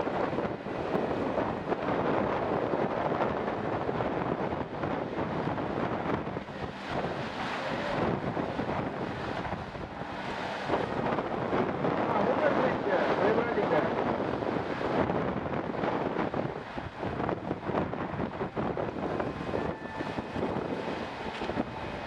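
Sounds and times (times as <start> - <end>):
breaking surf: 0.0 - 22.0
wind buffeting microphone: 0.0 - 22.0.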